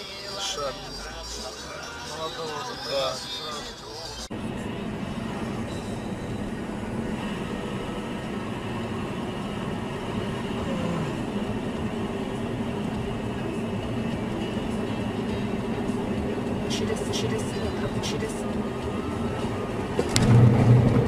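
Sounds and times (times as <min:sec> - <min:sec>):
vehicle engine and tyre rumble: 0:03.7 - 0:21.0.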